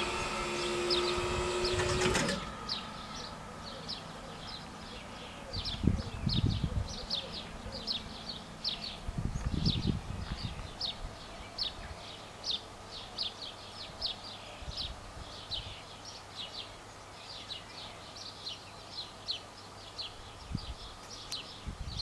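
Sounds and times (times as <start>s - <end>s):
songbird chirping: 0.0s - 22.0s.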